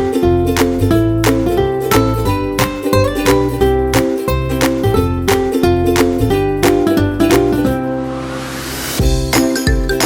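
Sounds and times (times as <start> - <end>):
ukulele-led tune with beat: 0.0 - 8.0, 9.0 - 10.0.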